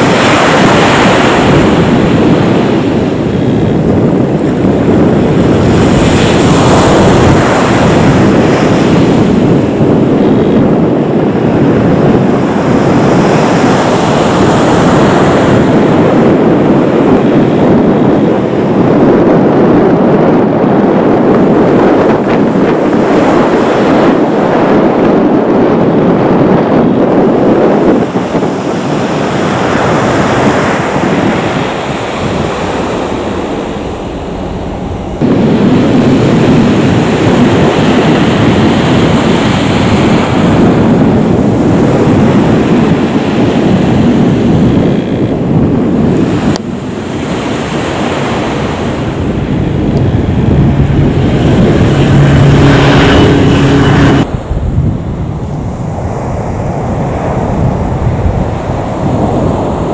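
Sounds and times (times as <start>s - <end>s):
jet engines roaring at taxi power: 0.0s - 59.9s.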